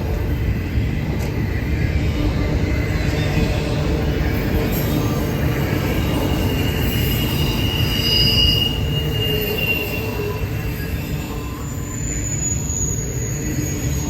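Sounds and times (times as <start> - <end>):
freight train rumbling past: 0.0 - 14.0
train wheels squealing on rail: 0.0 - 14.0.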